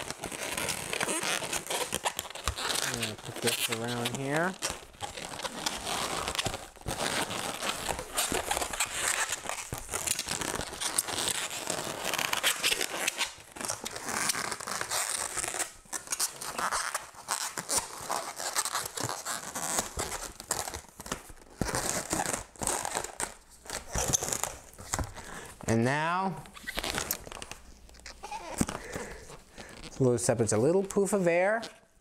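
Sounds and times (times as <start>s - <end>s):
rubber balloons squeaking: 0.0s - 30.2s.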